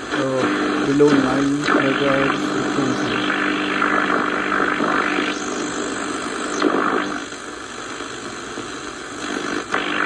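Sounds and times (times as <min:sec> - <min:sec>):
radio static and hiss: 0:00.0 - 0:10.0.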